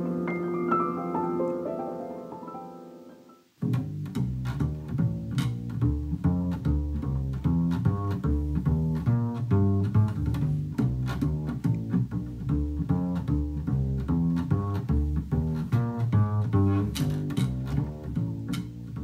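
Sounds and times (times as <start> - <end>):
piano: 0.0 - 19.0
double bass plucked pizzicato: 3.6 - 19.0.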